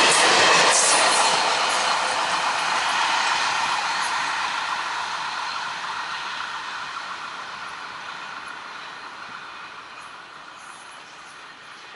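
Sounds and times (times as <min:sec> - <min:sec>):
freight train wagons rolling: 0:00.0 - 0:11.9.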